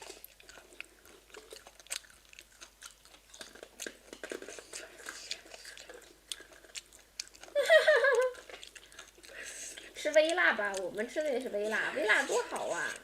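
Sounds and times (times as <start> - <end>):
crunchy chewing and biting: 0.0 - 13.0.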